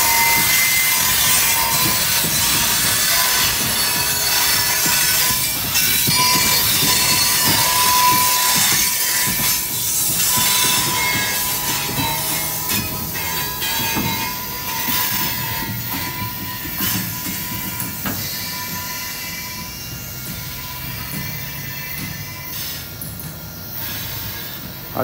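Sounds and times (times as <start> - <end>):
sharp metal clanks: 0.0 - 22.4
train wheels squealing on rail: 0.0 - 25.0.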